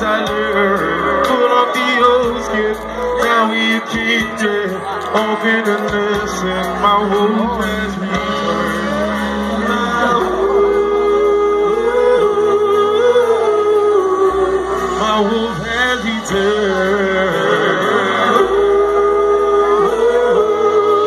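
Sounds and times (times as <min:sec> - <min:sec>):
bass line: 0:00.0 - 0:21.0
live band playing: 0:00.0 - 0:21.0
wavering wordless vocal: 0:00.0 - 0:21.0.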